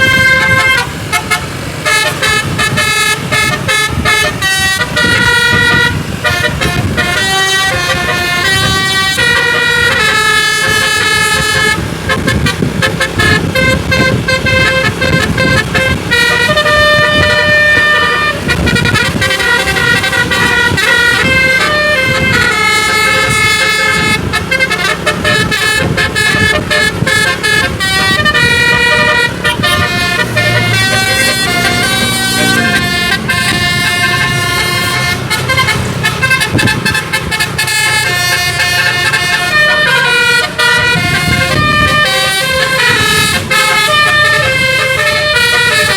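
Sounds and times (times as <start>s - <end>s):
musical air horn playing tune: 0.0s - 45.9s.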